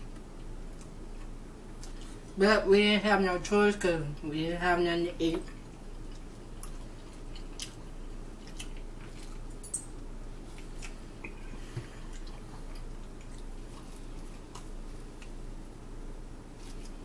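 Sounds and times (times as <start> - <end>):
people chewing food: 0.0 - 2.4, 5.3 - 17.0
steady low hum: 0.0 - 17.0.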